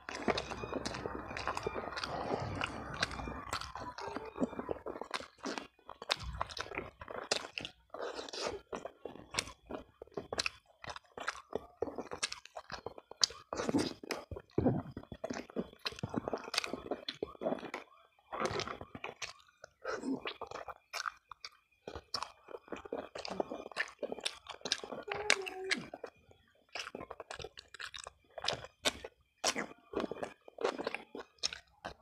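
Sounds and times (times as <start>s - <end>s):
person chewing wetly: 0.0s - 32.0s.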